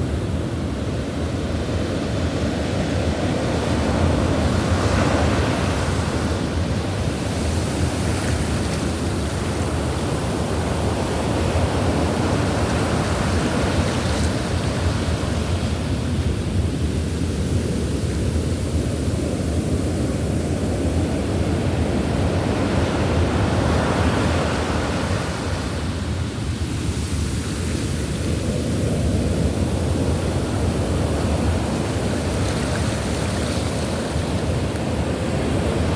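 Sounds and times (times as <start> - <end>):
ocean waves breaking: 1.2 - 16.2, 20.9 - 35.9.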